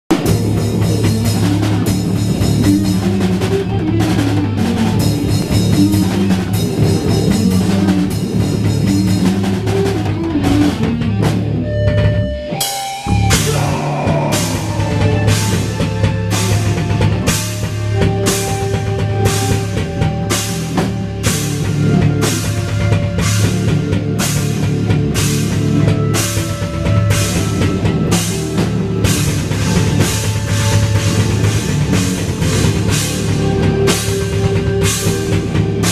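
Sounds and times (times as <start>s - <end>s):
metal band playing loud: 0.1s - 35.9s.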